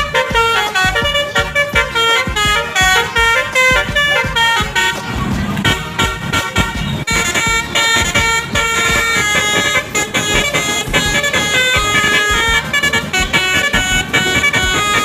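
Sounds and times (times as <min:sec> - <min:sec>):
low thumping beat: 0:00.0 - 0:15.0
musical bus horn playing tune: 0:00.0 - 0:15.0.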